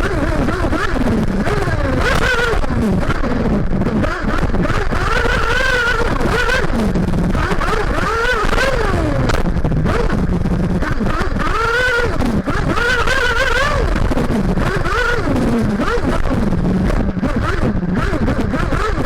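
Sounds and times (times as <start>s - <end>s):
model car engine revving: 0.0s - 19.0s.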